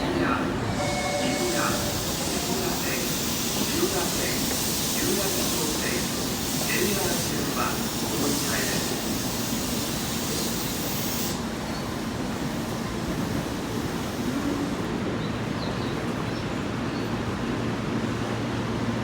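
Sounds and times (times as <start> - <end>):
subway train rushing hiss: 0.0 - 19.0.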